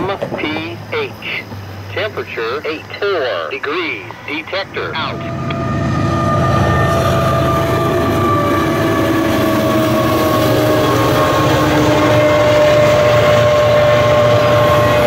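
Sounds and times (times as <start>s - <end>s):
train rumbling past: 0.0s - 15.0s
train whine: 0.0s - 15.0s.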